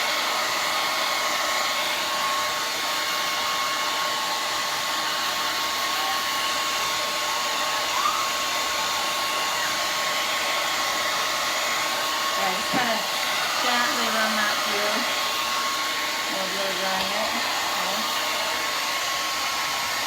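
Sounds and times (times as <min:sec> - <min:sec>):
blow dryer running: 0:00.0 - 0:20.0.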